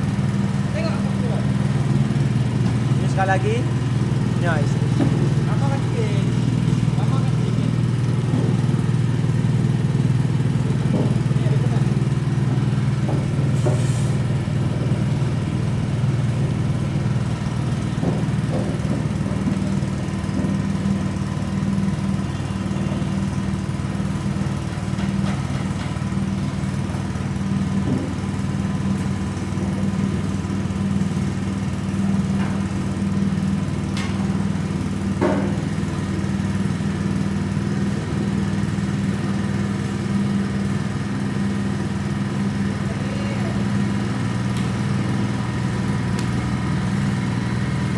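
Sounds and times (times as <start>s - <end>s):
petrol engine running under load: 0.0s - 47.9s.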